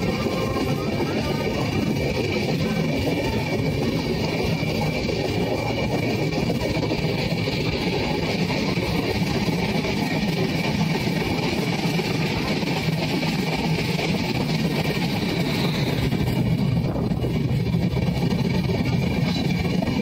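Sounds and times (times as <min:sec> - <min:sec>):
moving passenger train: 0:00.0 - 0:20.0.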